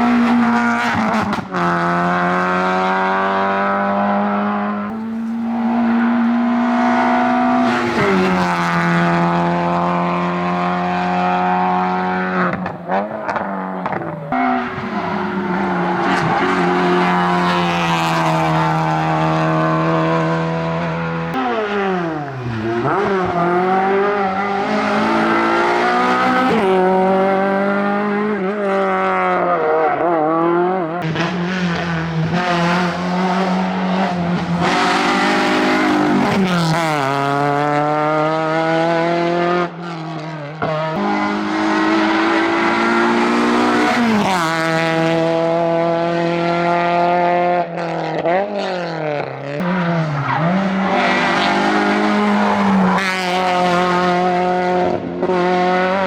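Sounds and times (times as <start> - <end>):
rally car engines at full throttle: 0.0 - 56.0.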